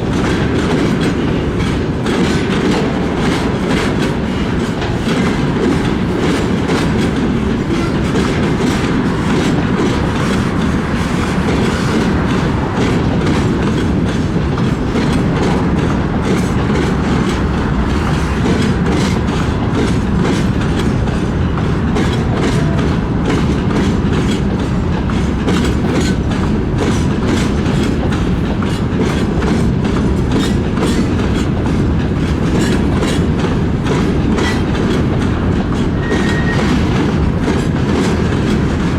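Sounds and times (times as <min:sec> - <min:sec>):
train rumble: 0:00.0 - 0:38.9
wheels clicking over rail joints: 0:00.0 - 0:38.9.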